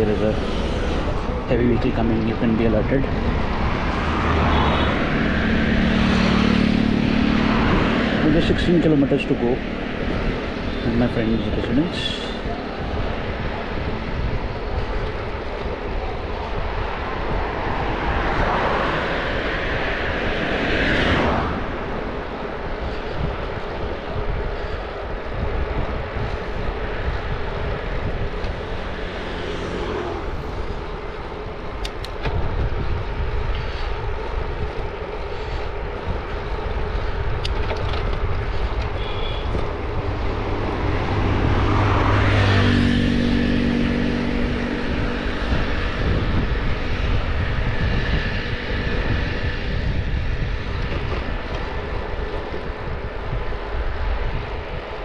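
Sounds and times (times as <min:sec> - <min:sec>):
motor vehicle passing: 0:00.0 - 0:54.9
wind rumble on microphone: 0:00.0 - 0:55.0.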